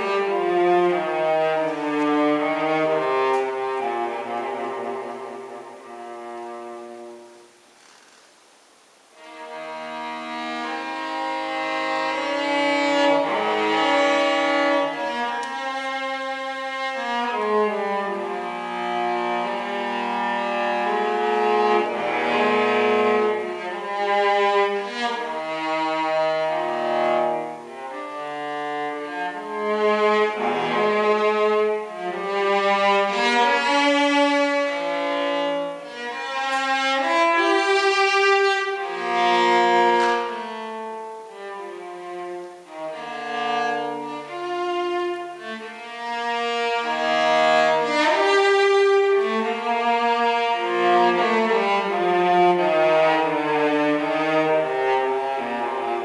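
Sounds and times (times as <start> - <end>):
bowed cello classical piece: 0.0 - 56.0.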